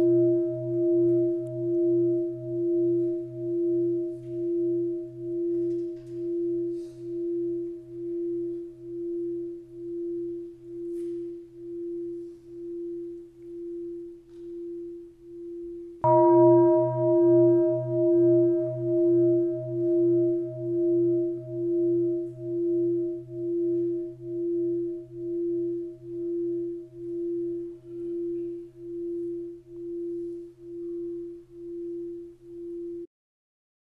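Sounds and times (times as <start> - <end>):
bowl bell ringing: 0.0 - 33.1.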